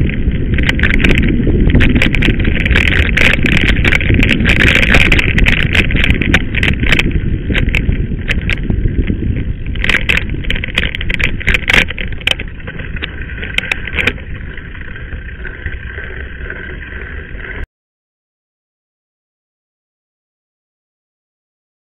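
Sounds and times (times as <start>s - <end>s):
bike rattling over bumps: 0.0s - 17.7s
bike tyres rumbling on gravel: 0.0s - 17.7s.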